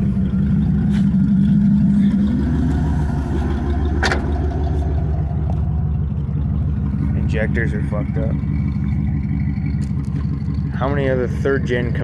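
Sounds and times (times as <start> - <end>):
engine running rough: 0.0 - 12.0.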